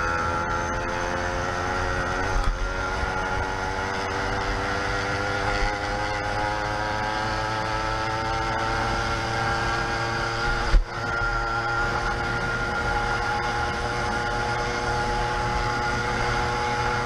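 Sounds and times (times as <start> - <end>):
two-stroke engine running: 0.0 - 17.0.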